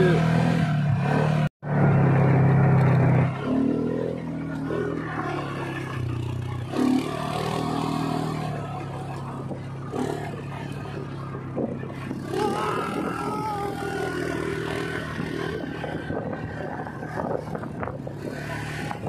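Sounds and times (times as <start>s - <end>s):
quad bike engine revving: 0.0s - 19.0s
quad bike rattling over ground: 0.0s - 19.0s.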